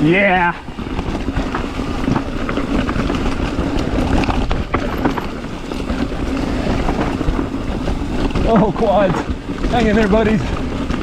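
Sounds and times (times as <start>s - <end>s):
bike tyres and frame rattling: 0.0s - 11.0s
wind rushing over microphone: 0.0s - 11.0s.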